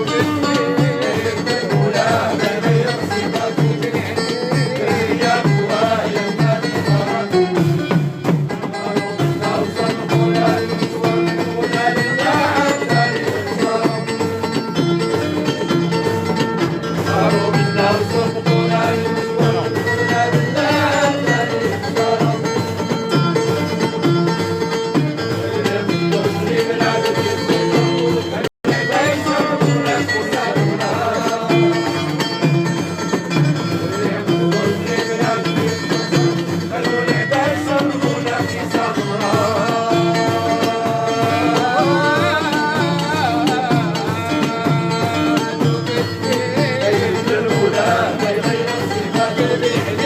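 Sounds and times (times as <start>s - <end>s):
live folk music: 0.0s - 50.0s.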